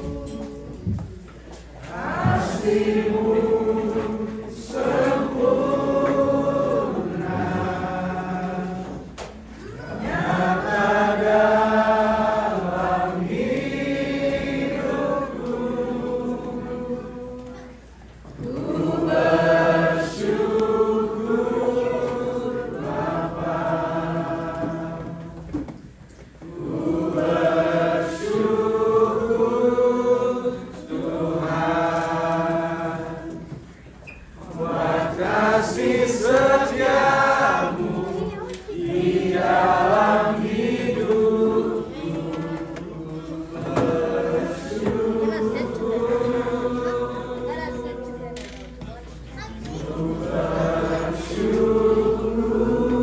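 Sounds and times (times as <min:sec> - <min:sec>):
group singing worship song: 0:00.0 - 0:53.0.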